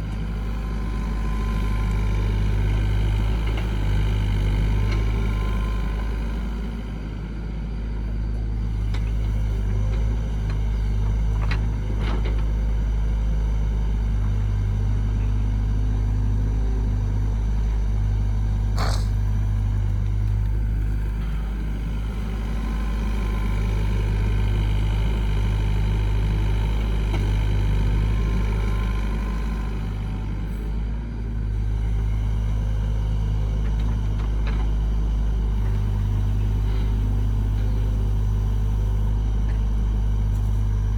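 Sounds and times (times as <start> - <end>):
heavy machine engine droning: 0.0 - 40.9.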